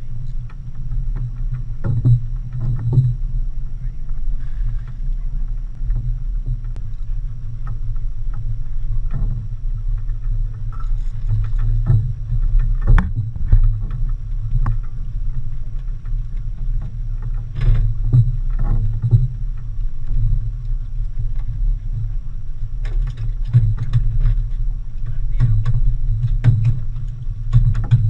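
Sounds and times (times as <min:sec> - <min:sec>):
outboard motors idling: 0:00.0 - 0:28.0.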